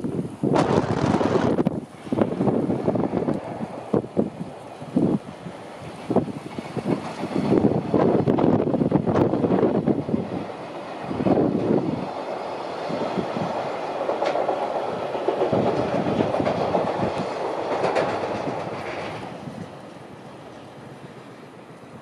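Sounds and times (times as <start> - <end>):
train wheels clattering on bridge: 0.5 - 20.0.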